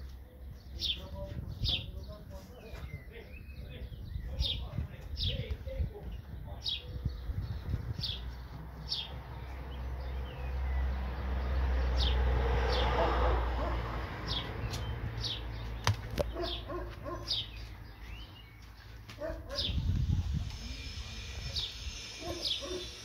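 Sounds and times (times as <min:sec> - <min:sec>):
swallows chirping: 0:00.0 - 0:13.0, 0:13.6 - 0:23.0.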